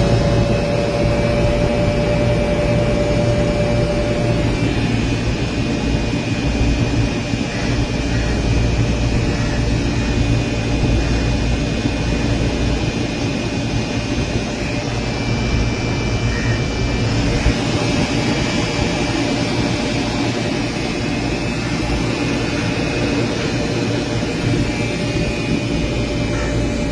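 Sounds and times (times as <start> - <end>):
air whooshing from hvac: 0.0 - 26.9
low hum: 0.0 - 26.9.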